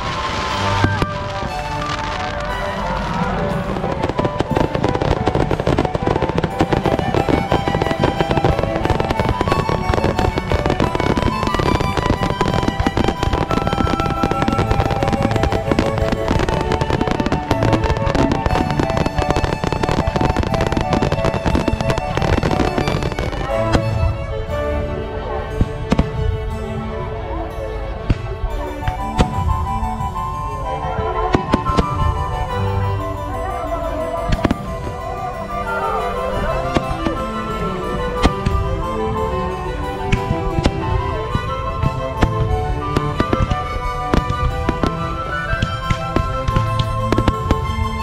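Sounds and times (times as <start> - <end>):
fireworks crackling and banging: 0.0 - 24.6, 25.4 - 26.8, 28.0 - 48.0
music playing: 0.0 - 48.0.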